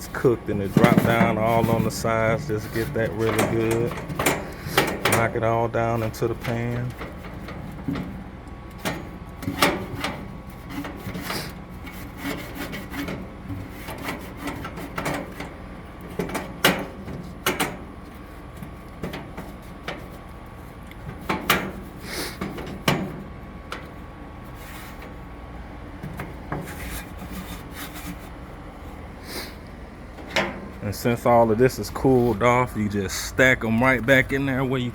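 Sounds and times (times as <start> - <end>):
stick scraping inside a grill: 0.0 - 32.5.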